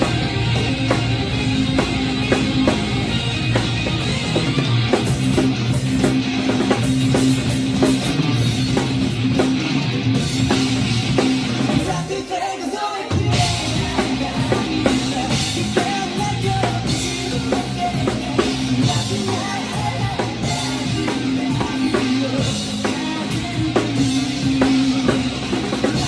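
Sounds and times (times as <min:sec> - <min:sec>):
drum kit playing: 0:00.0 - 0:26.0
hard rock track: 0:00.0 - 0:26.0.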